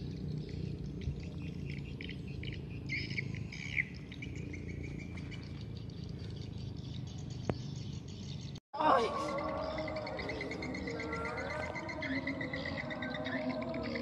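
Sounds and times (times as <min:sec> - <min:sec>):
bird chirping: 0:00.0 - 0:14.0
swamp forest background noise: 0:00.0 - 0:14.0.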